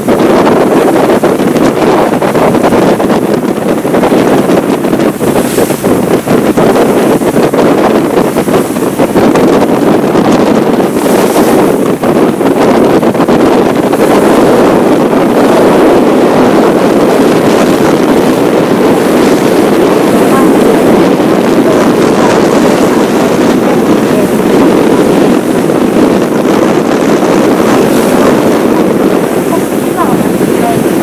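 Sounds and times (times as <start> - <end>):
boat engine and water rush: 0.0 - 31.0
wind buffeting microphone: 0.0 - 31.0.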